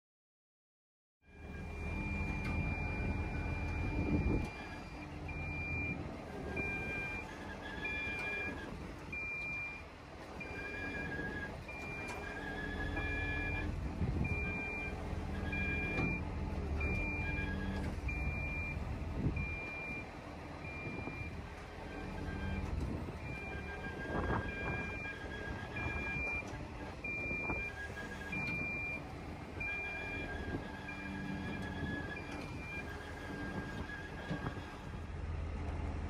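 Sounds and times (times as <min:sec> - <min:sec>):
diesel engine running: 0:01.3 - 0:36.0.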